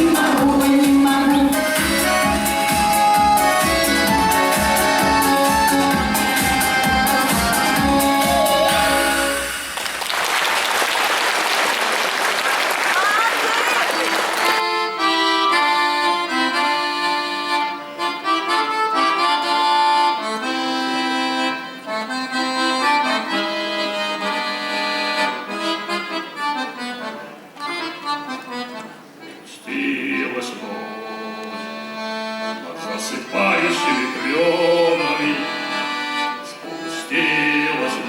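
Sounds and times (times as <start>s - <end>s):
accordion playing: 0.0s - 9.8s, 13.0s - 38.0s.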